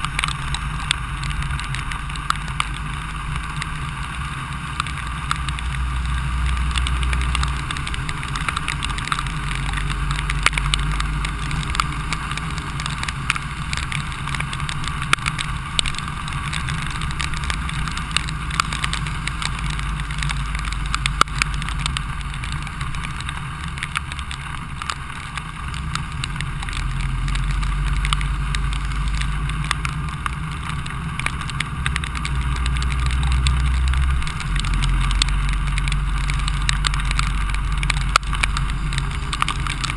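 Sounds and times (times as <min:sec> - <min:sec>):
raindrops ticking on microphone: 0:00.0 - 0:39.9
vehicle engine and road rumble: 0:00.0 - 0:39.9.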